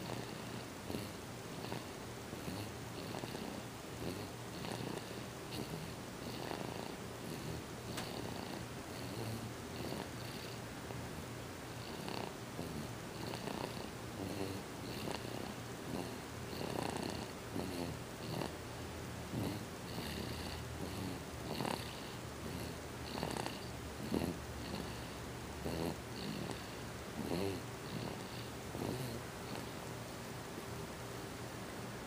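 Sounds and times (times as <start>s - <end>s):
person snoring: 0.0s - 10.6s, 11.8s - 18.6s, 19.3s - 29.7s.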